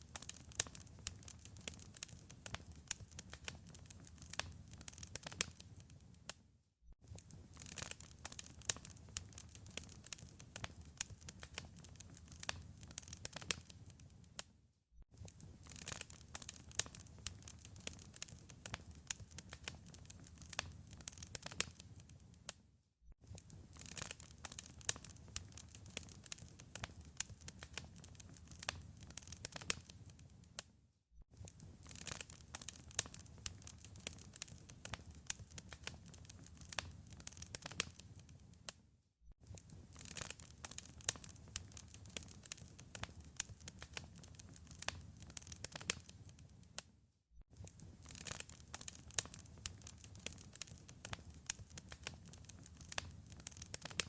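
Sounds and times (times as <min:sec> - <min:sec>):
wood fire crackling: 0:00.0 - 0:06.4, 0:07.0 - 0:14.5, 0:15.2 - 0:22.6, 0:23.2 - 0:30.7, 0:31.4 - 0:38.8, 0:39.5 - 0:46.8, 0:47.6 - 0:54.0.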